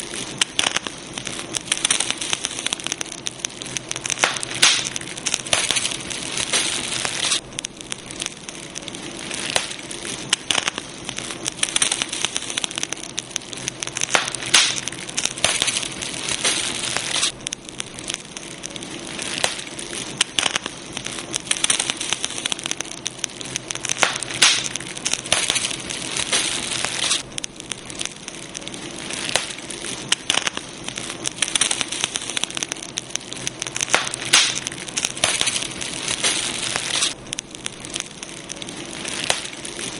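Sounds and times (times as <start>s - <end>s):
campfire crackling and popping: 0.0s - 39.9s
fire hissing: 0.0s - 39.9s.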